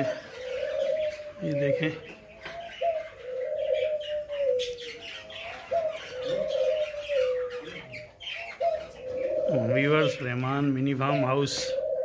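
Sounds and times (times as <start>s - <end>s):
budgerigars twittering: 0.0s - 12.0s
dove cooing: 0.0s - 12.0s.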